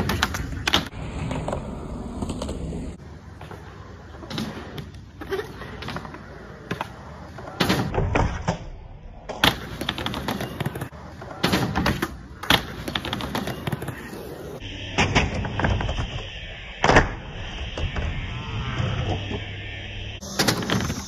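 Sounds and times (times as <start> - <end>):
skateboard wheels rolling on concrete: 0.0 - 21.0.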